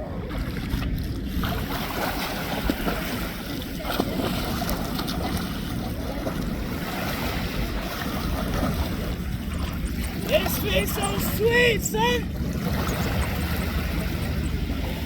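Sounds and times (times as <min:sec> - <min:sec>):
moving sea water: 0:00.0 - 0:15.0
wind buffeting microphone: 0:00.0 - 0:15.0.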